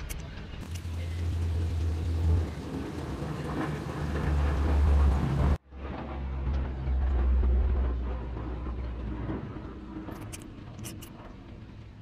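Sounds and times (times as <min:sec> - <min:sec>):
low background rumble: 0:00.6 - 0:12.0.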